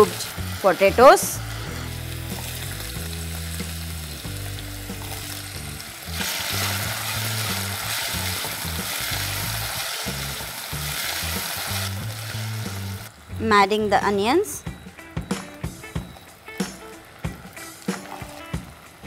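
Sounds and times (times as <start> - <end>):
potatoes sizzling in hot oil: 0.0 - 13.9, 15.6 - 19.0.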